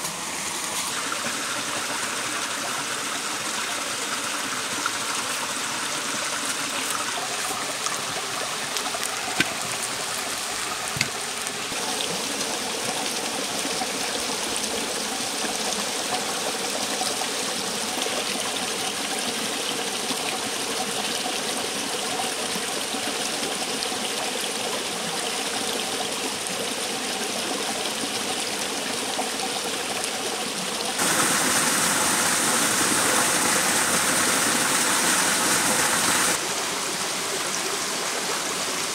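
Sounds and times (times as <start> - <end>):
small waterfall running: 0.0 - 38.9.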